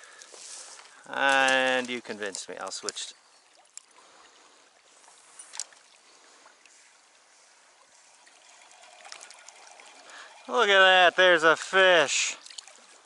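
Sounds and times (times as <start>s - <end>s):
river current rippling: 0.0s - 13.0s.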